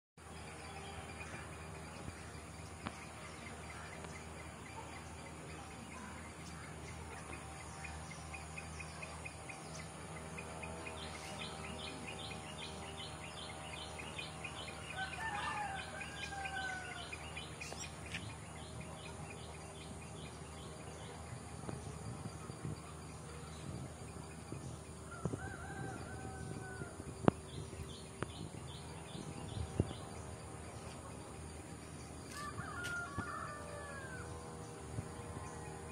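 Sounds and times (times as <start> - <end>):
steady low hum: 0.2 - 35.9.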